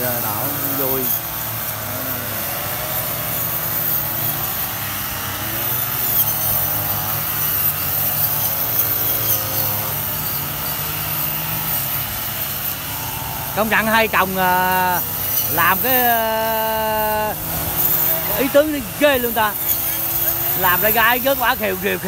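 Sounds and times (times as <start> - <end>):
brush cutters buzzing: 0.0 - 22.0.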